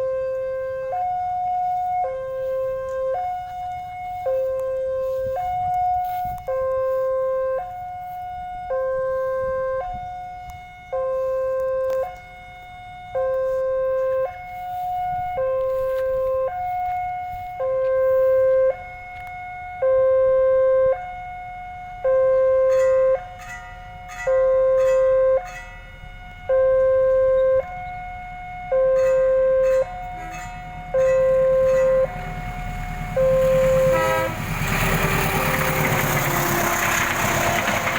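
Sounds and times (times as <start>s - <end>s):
level crossing two-tone alarm: 0.0s - 37.9s.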